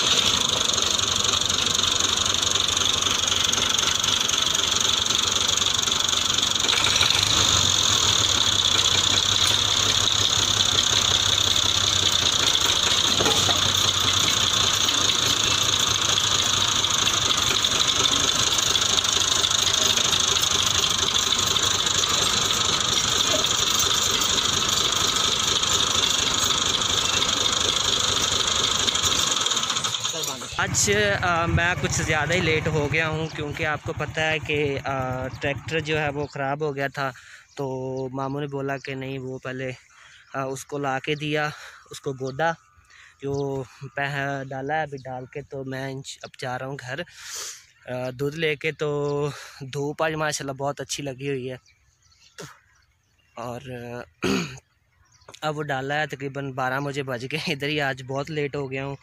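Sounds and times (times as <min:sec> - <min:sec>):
tractor diesel engine idling: 0:00.0 - 0:54.2.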